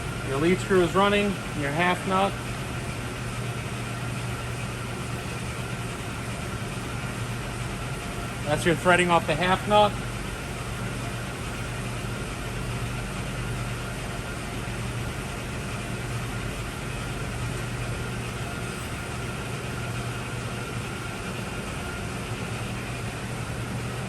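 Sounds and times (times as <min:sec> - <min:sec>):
lathe running with mechanical hum: 0:00.0 - 0:24.0.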